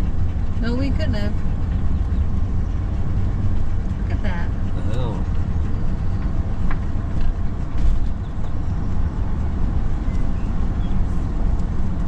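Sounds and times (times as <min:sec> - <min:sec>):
vehicle driving on road rumble: 0:00.0 - 0:12.0.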